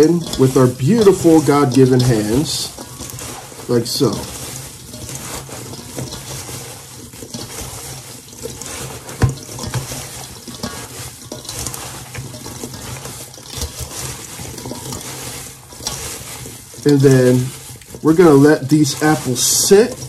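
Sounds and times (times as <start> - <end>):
hands squishing apple pieces: 0.0 - 20.0.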